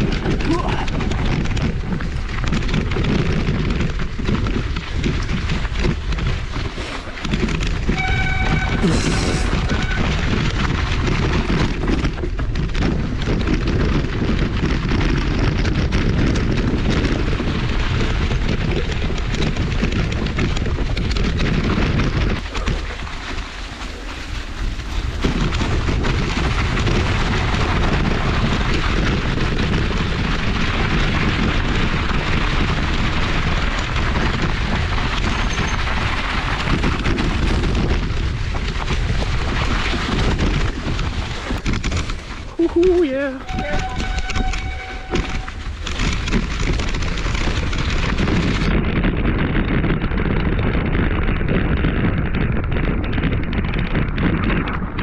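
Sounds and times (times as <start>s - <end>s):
bike tyre and rattle noise: 0.0s - 55.0s
wind buffeting microphone: 0.0s - 55.0s.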